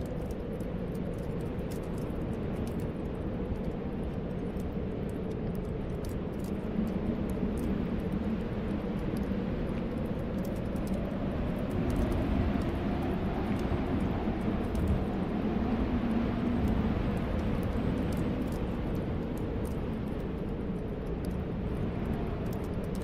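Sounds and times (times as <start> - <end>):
snowstorm wind whistling: 0.0 - 23.0
wood fire crackling: 0.0 - 23.0.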